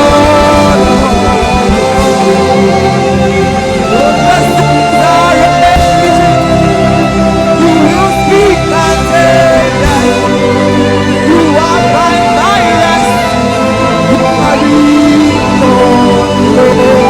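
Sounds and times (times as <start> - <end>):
gliding melodic lead lines: 0.0 - 17.0
held keyboard chords: 0.0 - 17.0.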